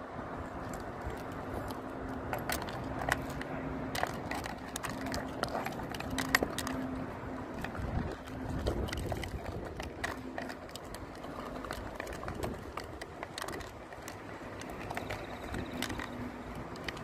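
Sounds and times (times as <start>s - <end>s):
dog crunching food: 0.7s - 17.0s.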